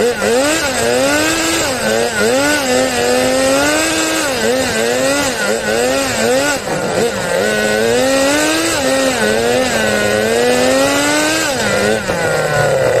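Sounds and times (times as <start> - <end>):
small nitro engine revving: 0.0 - 13.0.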